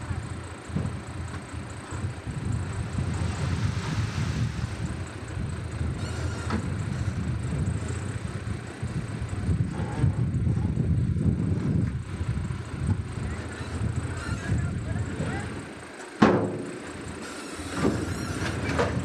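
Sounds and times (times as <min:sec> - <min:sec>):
diesel machinery engine rumble: 0:00.0 - 0:19.0.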